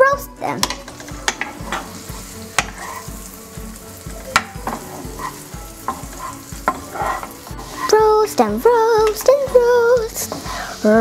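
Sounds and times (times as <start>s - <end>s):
garlic sizzling in butter: 0.4s - 11.0s
wooden spatula knocking pan: 0.6s - 3.1s, 4.0s - 10.6s.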